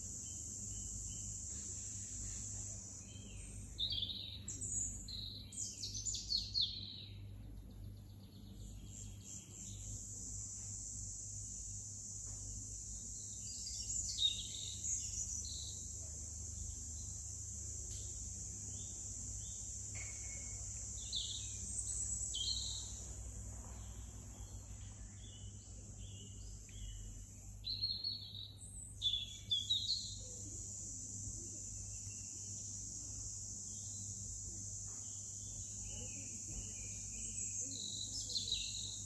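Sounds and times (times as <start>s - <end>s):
high insect trill: 0.0s - 39.0s
songbirds chirping: 0.0s - 39.0s.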